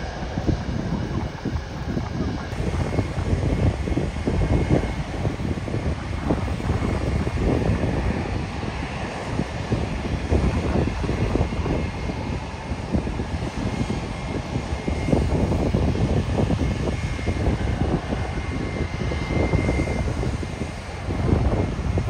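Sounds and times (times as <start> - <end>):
faint steady whine: 0.0 - 22.0
jet engines rumbling: 0.0 - 22.0.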